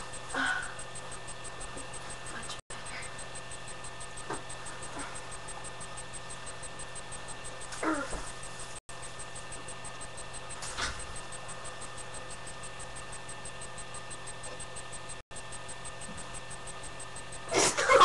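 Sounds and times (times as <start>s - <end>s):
electrical hum and hiss: 0.0s - 18.0s.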